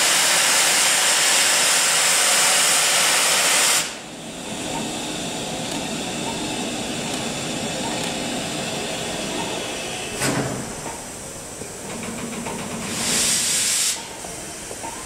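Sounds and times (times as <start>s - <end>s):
locomotive steam hissing: 0.0s - 15.0s.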